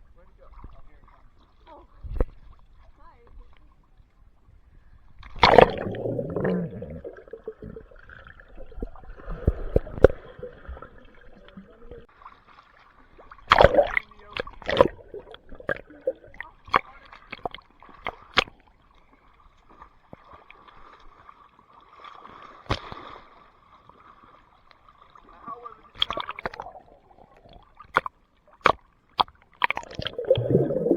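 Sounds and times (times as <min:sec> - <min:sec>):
pool water splashing: 0:05.2 - 0:30.9.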